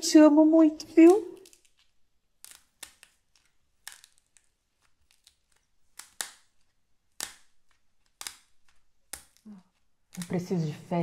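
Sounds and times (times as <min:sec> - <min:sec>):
slime crackling and snapping: 0:01.0 - 0:10.4.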